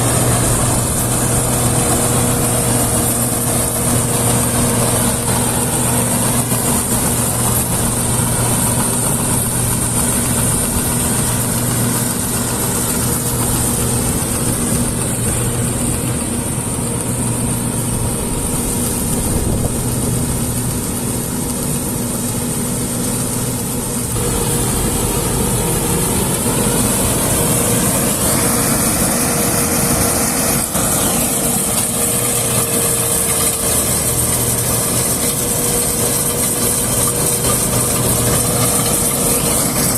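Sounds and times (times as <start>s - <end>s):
combine harvester engine humming: 0.0s - 39.9s.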